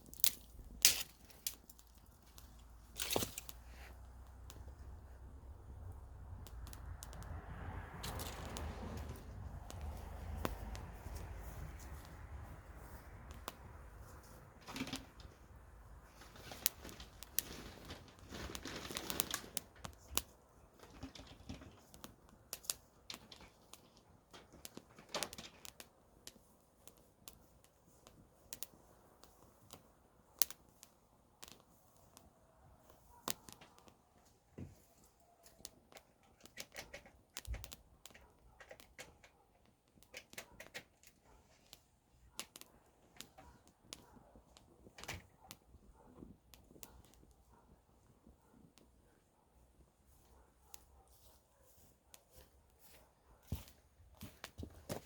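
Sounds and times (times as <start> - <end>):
campfire crackling and popping: 0.0 - 49.0, 53.6 - 55.0.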